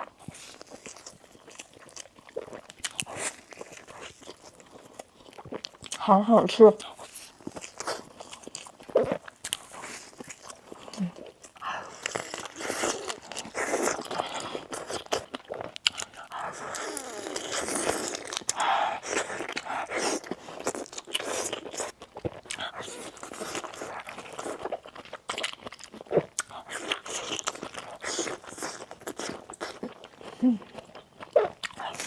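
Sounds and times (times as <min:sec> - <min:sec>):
chewing crispy fried chicken: 0:00.0 - 0:32.0.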